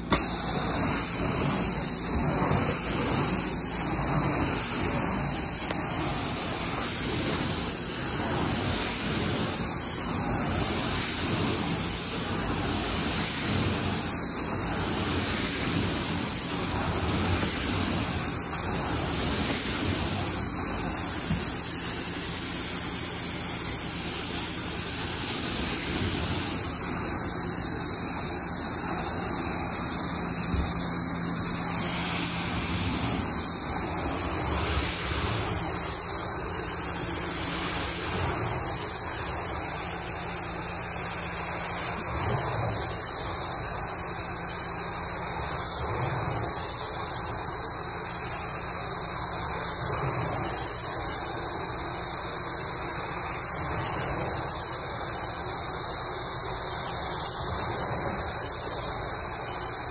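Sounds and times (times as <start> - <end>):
carpet cleaning machine roar: 0.0 - 59.9.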